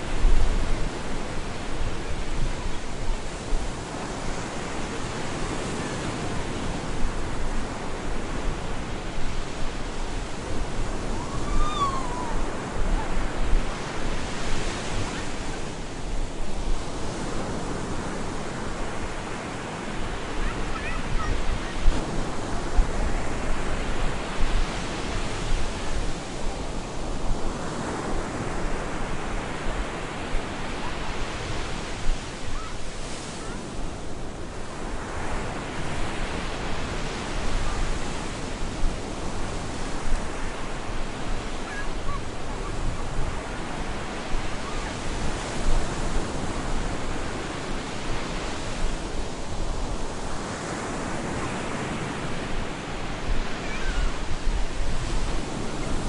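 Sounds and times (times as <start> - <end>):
surf breaking on beach: 0.0 - 56.0
wind: 0.0 - 56.0.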